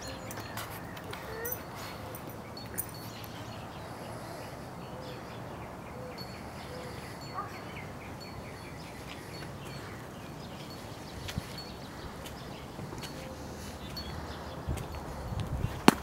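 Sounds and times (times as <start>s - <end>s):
small birds chirping: 0.0s - 15.8s
outdoor background noise: 0.0s - 16.0s.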